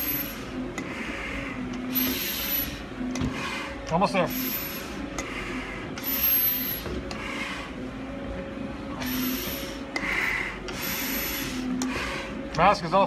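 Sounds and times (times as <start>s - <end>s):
steady low hum: 0.0s - 13.0s
hard breathing through a mask: 0.8s - 8.0s, 9.0s - 12.5s.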